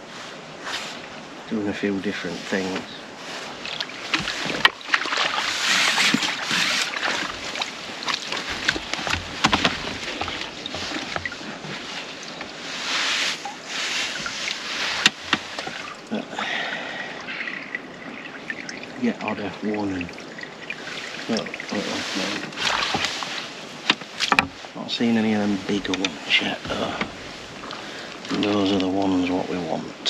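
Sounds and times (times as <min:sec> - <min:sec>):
water splashing and sloshing: 0:00.0 - 0:29.8.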